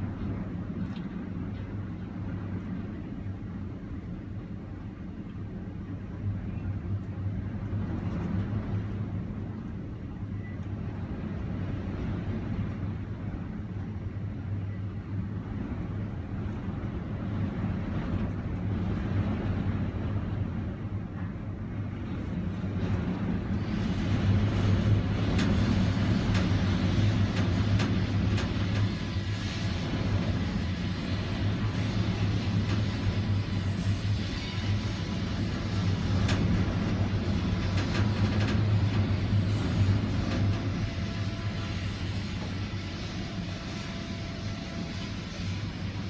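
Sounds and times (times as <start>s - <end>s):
steady low hum: 0.0s - 46.0s
wind buffeting microphone: 0.0s - 46.0s.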